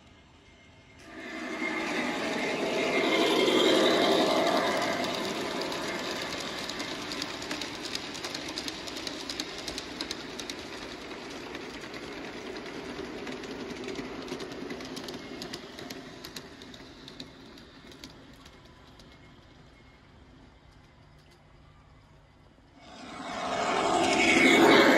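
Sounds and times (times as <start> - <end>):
model train wheels clicking on rails: 1.0 - 21.6.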